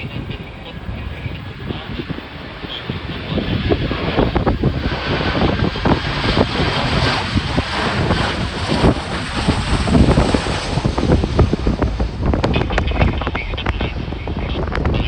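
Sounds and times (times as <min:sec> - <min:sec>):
jet airliner landing: 0:00.0 - 0:15.0
wind buffeting microphone: 0:00.0 - 0:15.0.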